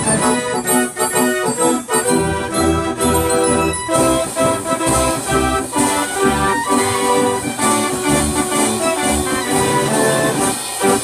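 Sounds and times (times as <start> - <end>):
band organ pipe tune: 0.0 - 11.0
drum beats: 0.0 - 11.0.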